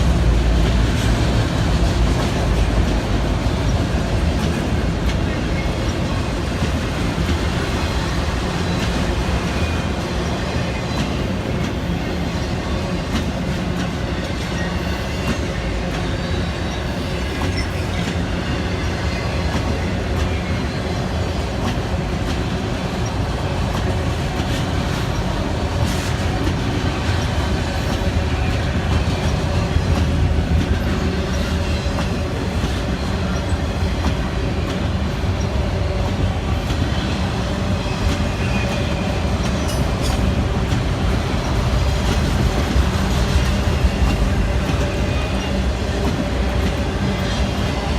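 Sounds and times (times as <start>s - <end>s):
freight train rumbling: 0.0s - 47.9s.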